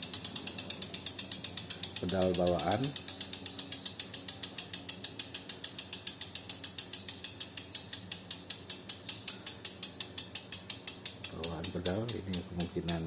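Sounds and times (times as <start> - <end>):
bicycle freehub clicking: 0.0 - 13.0.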